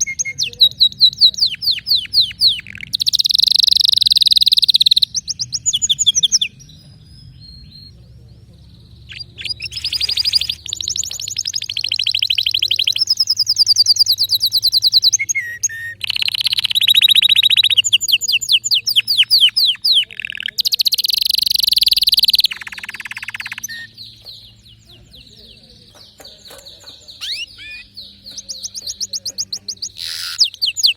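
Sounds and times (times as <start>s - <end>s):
canary singing trills: 0.0s - 30.9s.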